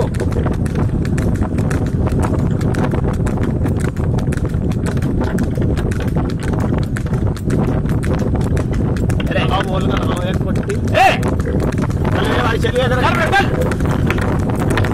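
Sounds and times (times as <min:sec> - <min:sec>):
cart wheels rumbling and rattling: 0:00.0 - 0:14.9
hooves clip-clopping on tarmac: 0:00.0 - 0:14.9.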